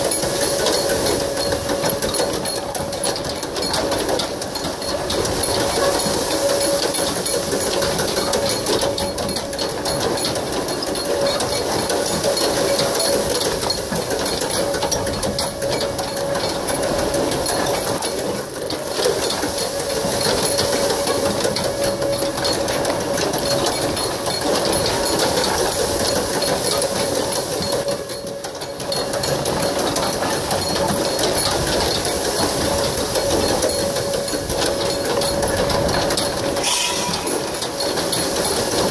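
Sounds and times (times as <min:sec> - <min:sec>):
steady ringing tone: 0:00.0 - 0:38.9.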